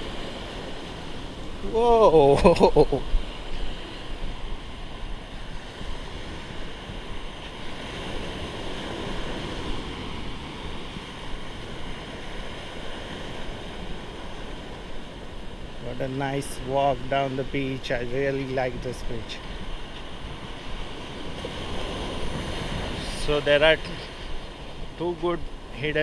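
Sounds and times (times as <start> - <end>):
sea surf breaking on shore: 0.0 - 26.0
wind rumble on microphone: 0.0 - 26.0.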